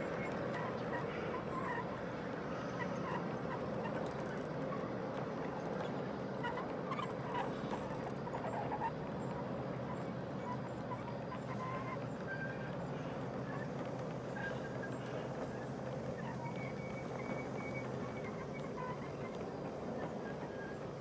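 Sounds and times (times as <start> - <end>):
model train rumbling on track: 0.0 - 21.0.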